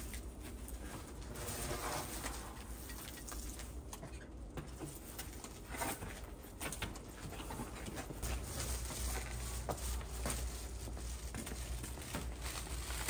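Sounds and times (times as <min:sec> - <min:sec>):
bicycle and panniers rustling: 0:00.0 - 0:13.0.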